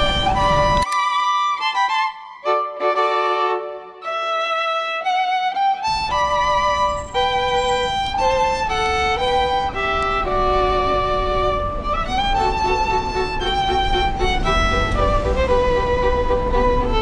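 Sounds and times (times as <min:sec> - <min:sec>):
melody of held notes: 0:00.0 - 0:17.0.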